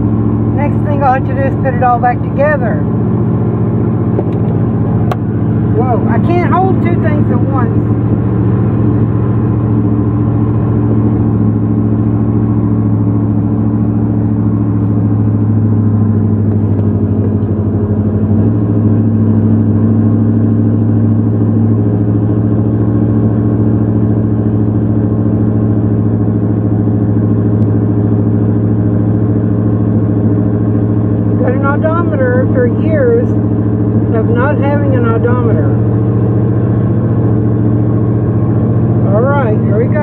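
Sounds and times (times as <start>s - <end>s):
truck engine and road hum: 0.0s - 40.0s.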